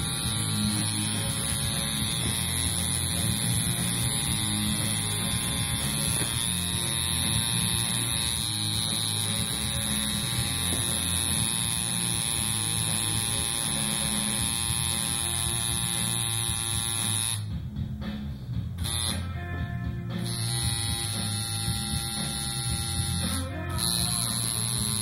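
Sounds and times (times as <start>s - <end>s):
tattoo machine buzzing: 0.0s - 17.6s, 18.8s - 25.0s.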